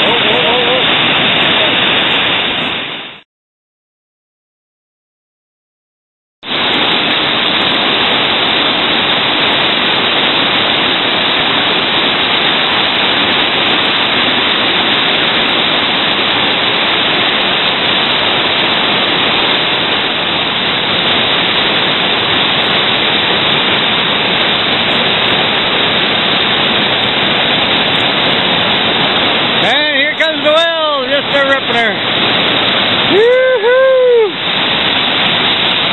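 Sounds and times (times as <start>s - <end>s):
whitewater rapids rushing: 0.0s - 3.2s, 6.5s - 35.9s.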